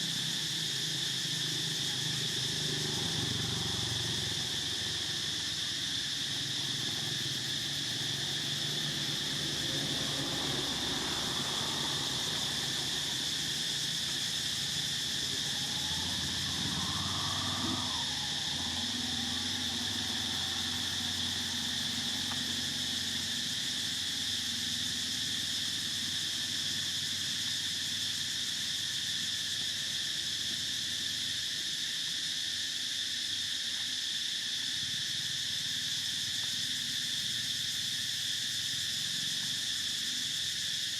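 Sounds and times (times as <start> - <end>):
insect chorus drone: 0.0 - 40.9.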